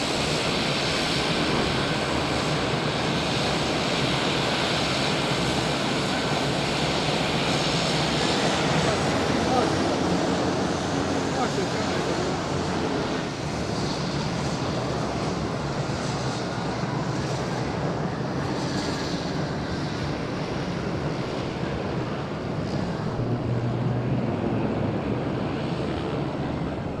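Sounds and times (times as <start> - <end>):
aircraft engine rushing: 0.0 - 27.0.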